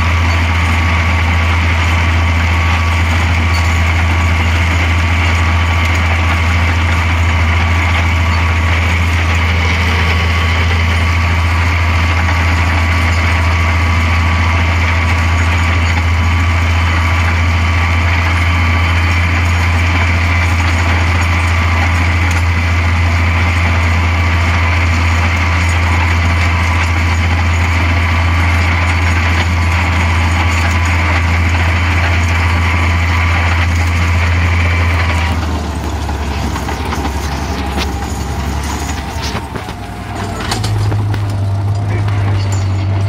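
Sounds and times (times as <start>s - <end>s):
mechanical whine: 0.0s - 43.0s
tractor diesel engine running: 0.0s - 43.0s.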